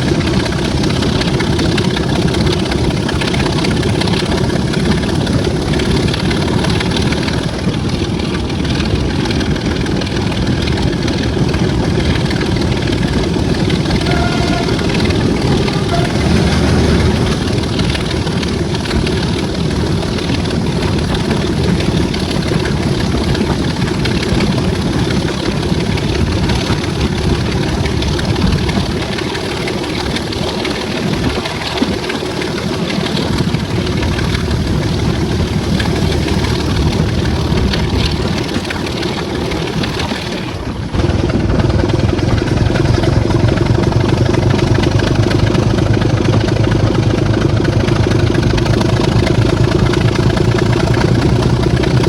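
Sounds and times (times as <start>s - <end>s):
diesel locomotive engine droning: 0.0s - 52.0s.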